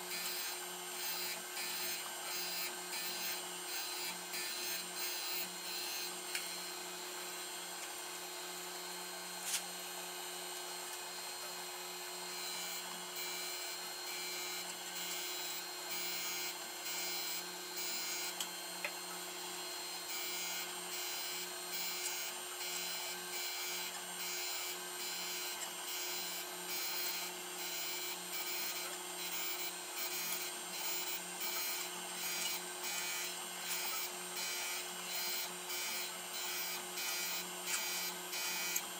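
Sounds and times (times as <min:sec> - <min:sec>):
grinder motor hum: 0:00.0 - 0:38.9.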